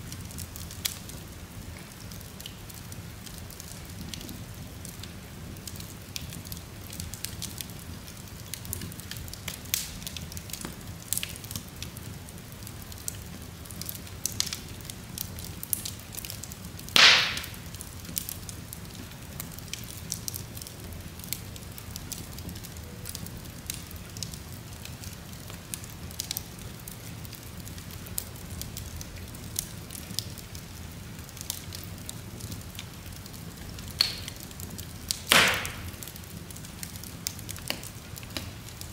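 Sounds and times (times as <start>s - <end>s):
fire popping: 0.0s - 38.9s
fire rumbling and crackling: 0.0s - 38.9s.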